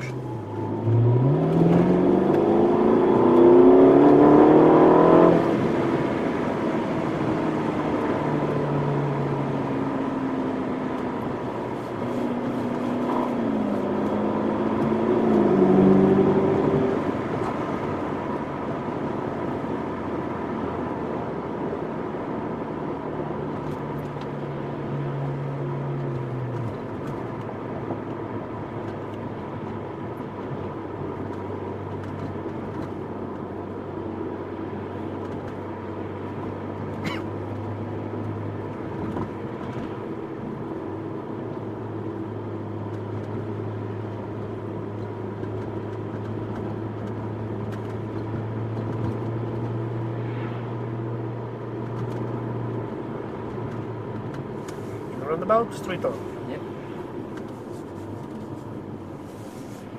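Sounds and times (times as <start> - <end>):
car engine cruising: 0.0 - 59.9
tyre and road noise: 0.0 - 59.9.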